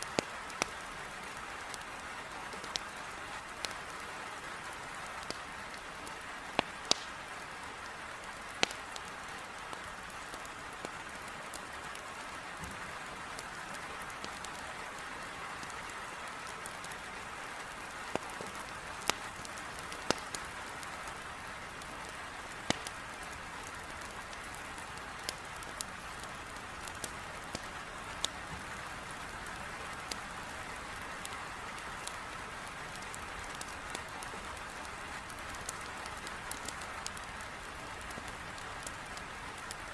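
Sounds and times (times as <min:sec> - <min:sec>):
heavy rain on a window: 0:00.0 - 0:39.9
wood fire crackling: 0:00.0 - 0:39.9.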